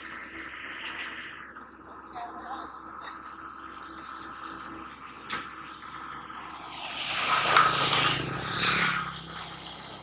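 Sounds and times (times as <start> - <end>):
engine running: 0.0 - 10.0
hissing rush: 0.0 - 10.0.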